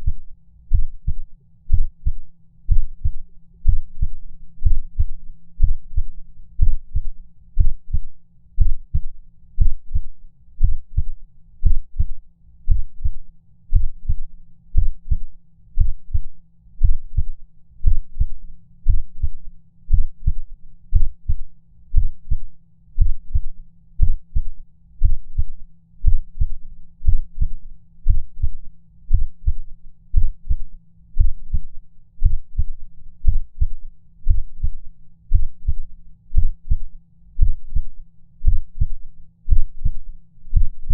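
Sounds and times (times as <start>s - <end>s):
faint steady low hum: 0.0s - 40.9s
human heartbeat: 0.0s - 40.9s.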